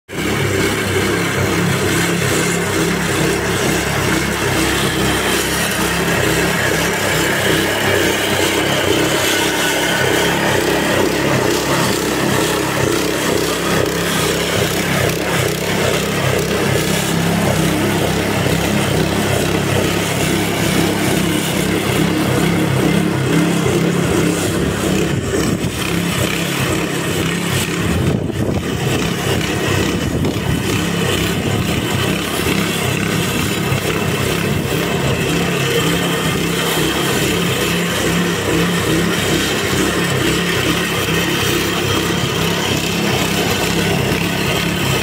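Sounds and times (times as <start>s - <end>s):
small petrol engine running: 0.1s - 45.0s
machine tearing out moss: 0.2s - 45.0s.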